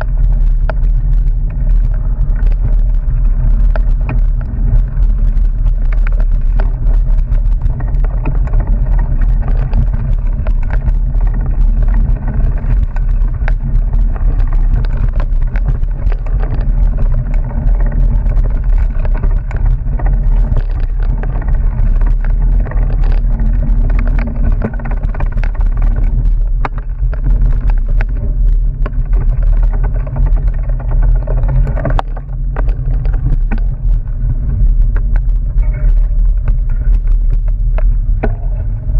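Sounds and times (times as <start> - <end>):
bike rattling and knocking: 0.0 - 38.9
wind rumble on microphone: 0.0 - 38.9.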